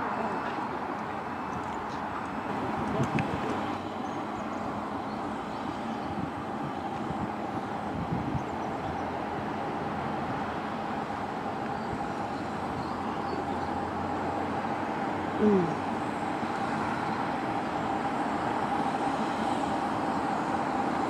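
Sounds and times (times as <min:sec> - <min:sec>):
steam locomotive moving slowly: 0:00.0 - 0:21.0.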